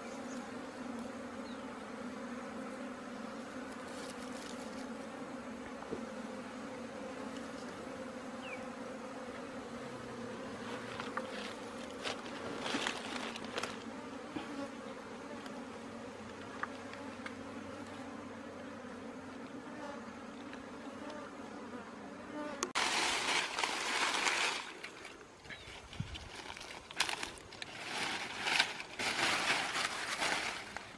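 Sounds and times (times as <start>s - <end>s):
honey bees buzzing: 0.0s - 30.9s.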